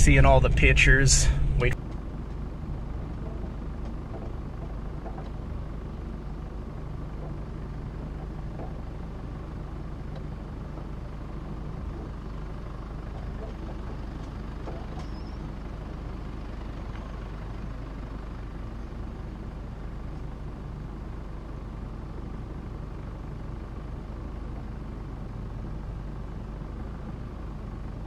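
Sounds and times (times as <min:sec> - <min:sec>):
engine and drivetrain rumble: 0:00.0 - 0:28.0.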